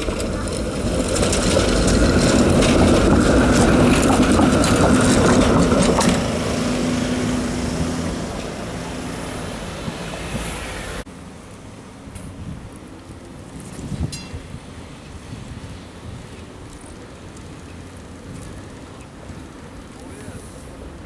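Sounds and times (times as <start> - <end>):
streetcar passing: 0.0 - 21.0.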